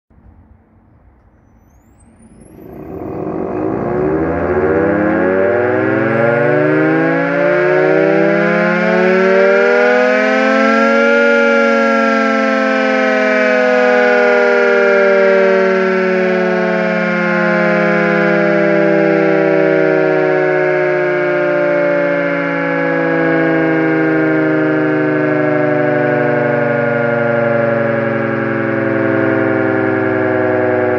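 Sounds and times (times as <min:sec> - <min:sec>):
air raid siren wailing: 0:00.1 - 0:30.9.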